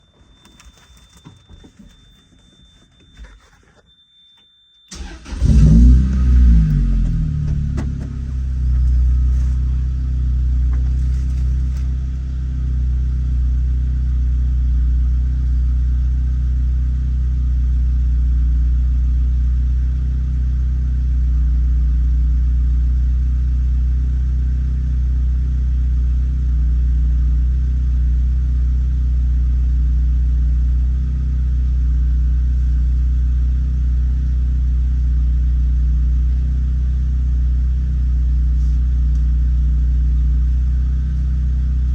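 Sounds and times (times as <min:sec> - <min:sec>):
car engine idling: 0:04.9 - 0:41.9.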